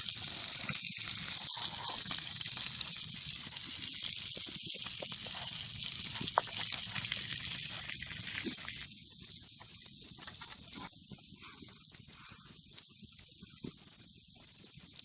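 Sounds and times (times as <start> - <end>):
crackles and pops: 0.0 - 15.0
meat sizzling on hot metal: 0.0 - 15.0.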